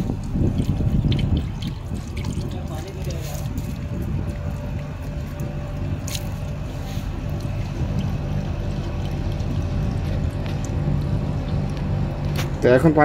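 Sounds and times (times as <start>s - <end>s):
low mechanical hum: 0.0s - 13.0s
water trickling from drain pipe: 0.0s - 13.0s.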